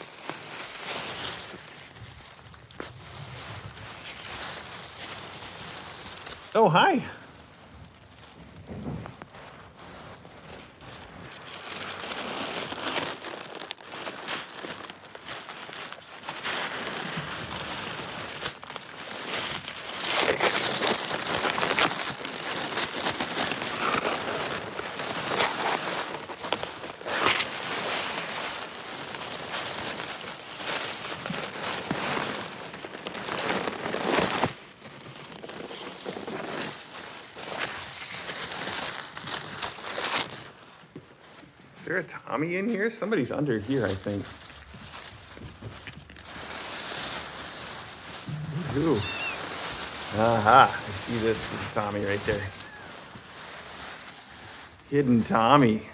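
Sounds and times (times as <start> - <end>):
tissue paper crinkling: 0.0 - 55.9.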